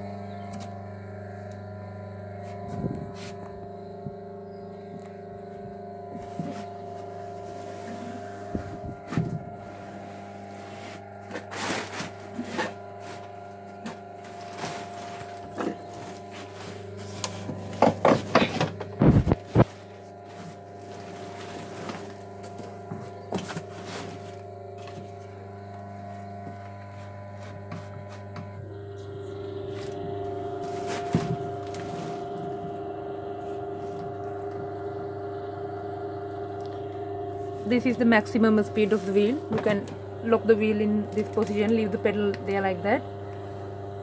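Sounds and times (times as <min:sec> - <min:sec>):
pottery wheel motor humming: 0:00.0 - 0:44.0.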